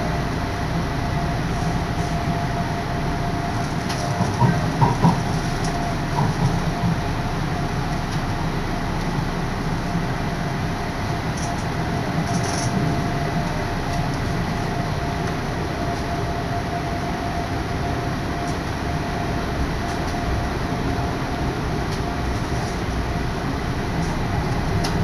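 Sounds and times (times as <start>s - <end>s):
steady train whine: 0.0s - 25.0s
train running rumble: 0.0s - 25.0s.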